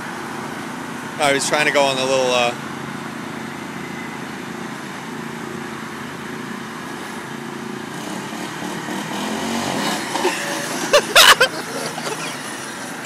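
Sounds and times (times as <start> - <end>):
large truck passing: 0.0 - 13.0
riding mower engine running: 0.0 - 13.0
road traffic: 0.0 - 13.0.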